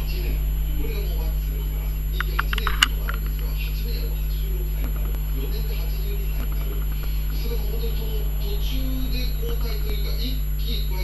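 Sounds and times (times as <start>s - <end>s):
faint indistinct sounds: 0.0s - 11.0s
low electrical hum: 0.0s - 11.0s.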